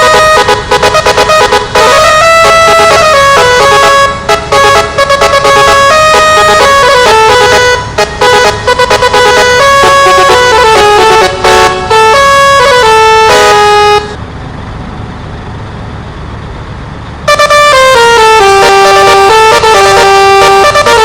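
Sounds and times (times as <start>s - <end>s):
truck musical air horn: 0.0s - 14.2s, 17.2s - 21.0s.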